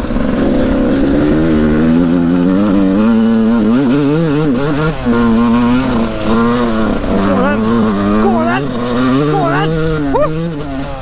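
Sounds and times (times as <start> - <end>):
two-stroke motocross engine revving: 0.0 - 11.0.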